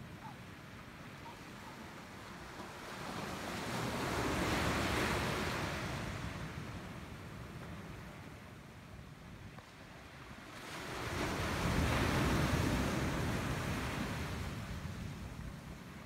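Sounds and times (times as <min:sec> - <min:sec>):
small waves washing up a beach: 0:00.0 - 0:16.0
wind rumble on microphone: 0:00.0 - 0:16.0.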